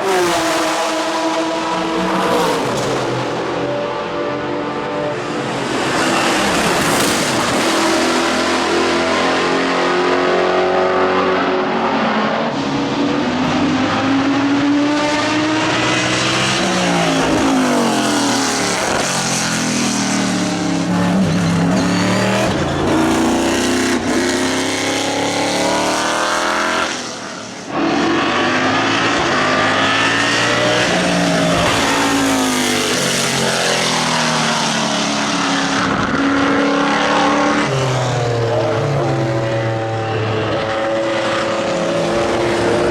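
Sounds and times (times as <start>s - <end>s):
racing engine revving: 0.0s - 42.9s.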